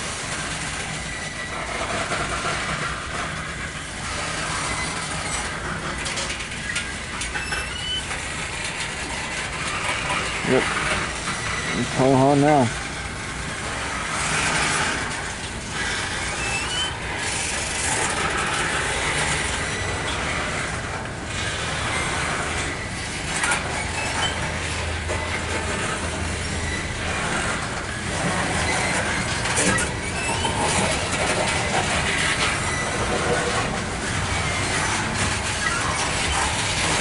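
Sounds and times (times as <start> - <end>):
freight train wheels rumbling: 0.0 - 37.0.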